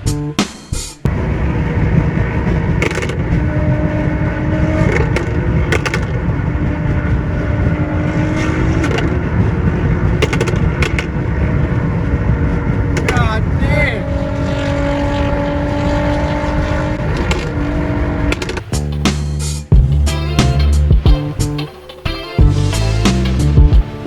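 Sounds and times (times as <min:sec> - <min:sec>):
road rumble: 0:00.0 - 0:24.0
engine drone: 0:00.8 - 0:24.0.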